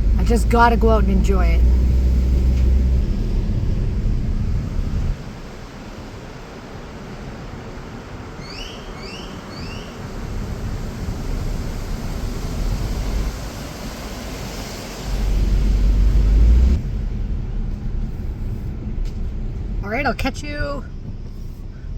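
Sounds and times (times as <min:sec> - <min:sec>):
car engine and road rumble: 0:00.0 - 0:21.9.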